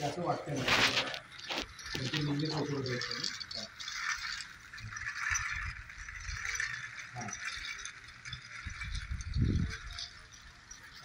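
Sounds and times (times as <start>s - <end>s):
toy train motor rattling: 0.0s - 11.0s.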